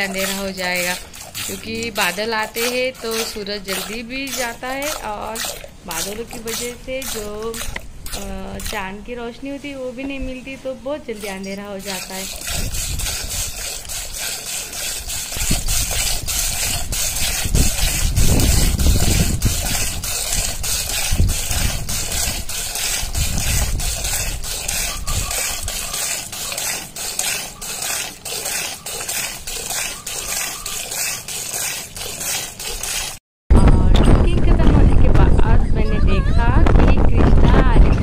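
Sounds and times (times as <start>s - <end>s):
milk squirting into a steel pot: 0.0s - 8.9s, 11.1s - 33.2s.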